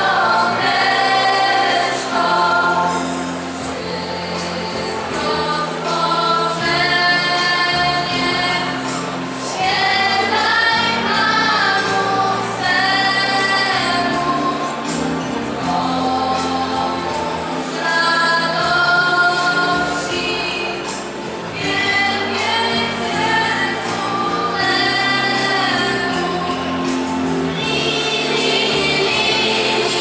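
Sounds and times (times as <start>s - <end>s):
choir singing a carol: 0.0s - 30.0s.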